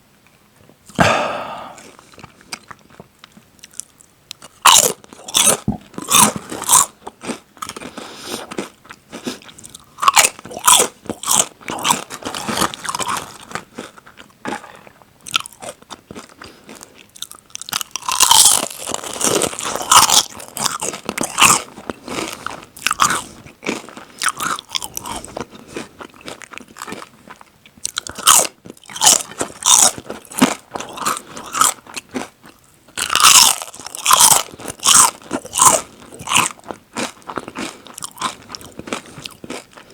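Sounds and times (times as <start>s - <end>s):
crunching chips: 1.9s - 39.9s.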